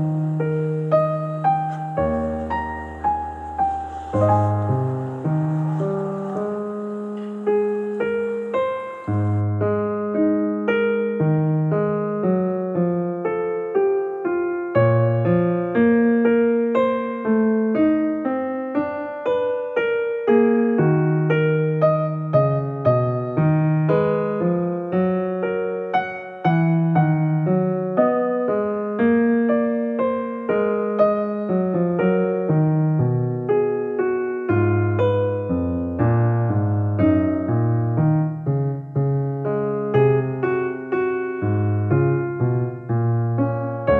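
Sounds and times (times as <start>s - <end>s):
solo piano music: 0.0s - 43.9s.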